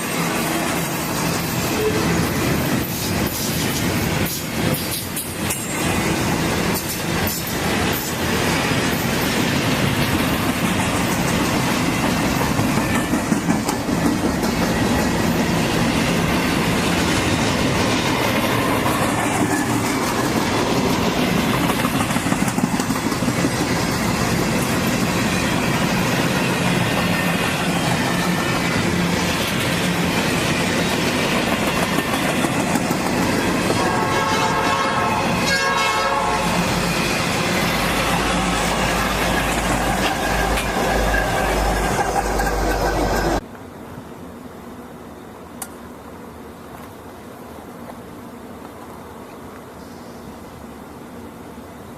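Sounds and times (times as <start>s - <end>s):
railcars clattering over rails: 0.0s - 43.7s.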